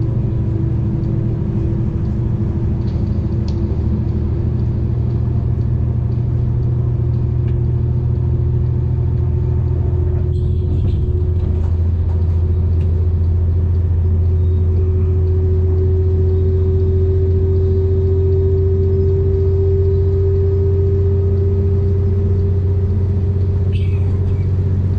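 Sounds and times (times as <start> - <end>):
diesel train rumbling along track: 0.0 - 24.9.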